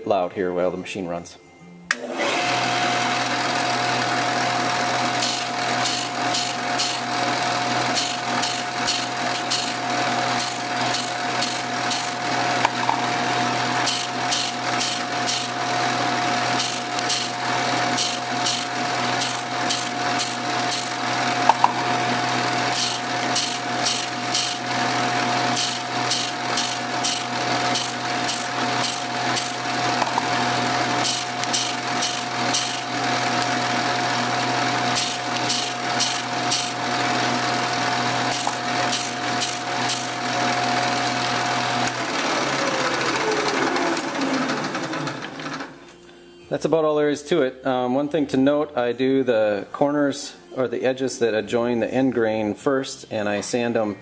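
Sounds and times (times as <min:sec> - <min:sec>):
drum sander motor hum: 0:01.9 - 0:46.0.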